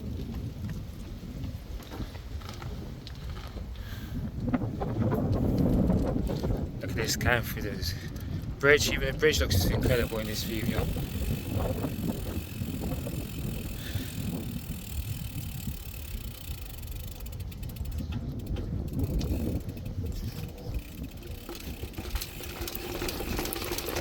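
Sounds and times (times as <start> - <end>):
rumbling and rattling of bumpy ride: 0.0 - 24.0
wind buffeting microphone: 0.0 - 24.0.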